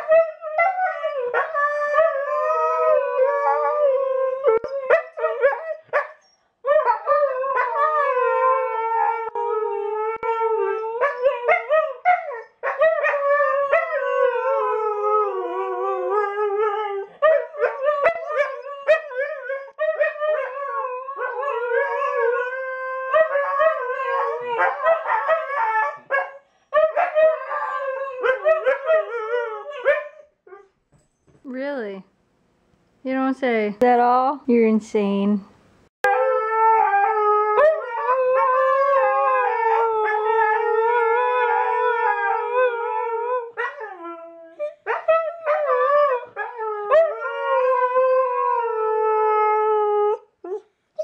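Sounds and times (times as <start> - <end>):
dog howling: 0.0 - 6.0, 6.7 - 30.7, 36.0 - 50.6.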